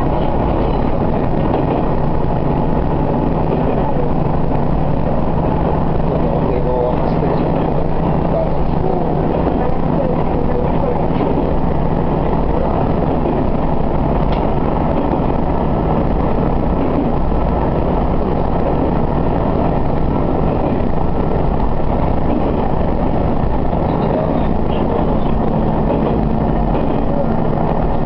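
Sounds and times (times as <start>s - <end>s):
diesel engine drone: 0.0s - 28.0s
wheels rumbling on rail: 0.0s - 28.0s.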